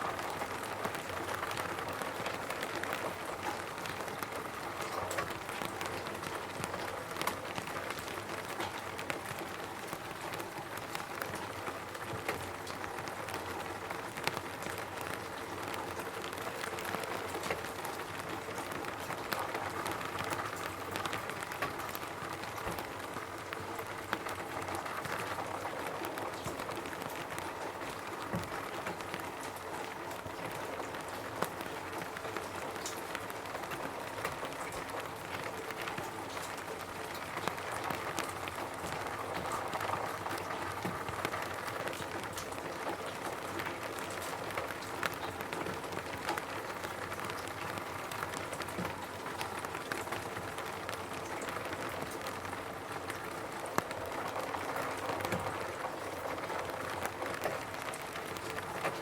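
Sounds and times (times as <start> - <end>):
rain drumming on a roof: 0.0 - 59.0.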